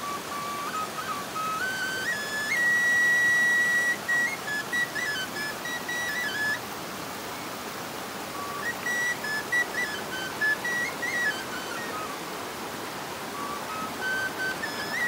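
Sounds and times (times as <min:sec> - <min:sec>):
shepherd's flute folk melody: 0:00.0 - 0:07.1, 0:08.3 - 0:15.0.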